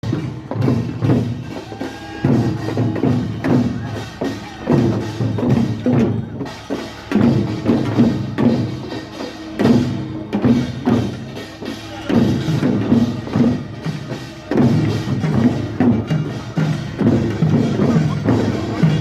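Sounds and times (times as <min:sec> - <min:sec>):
knocking percussion strokes: 0:00.0 - 0:19.0.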